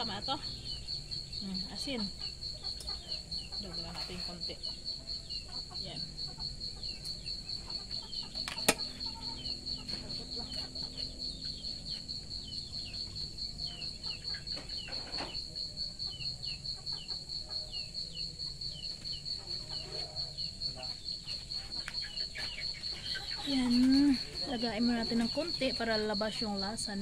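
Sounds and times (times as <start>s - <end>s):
insect trilling: 0.0s - 27.0s.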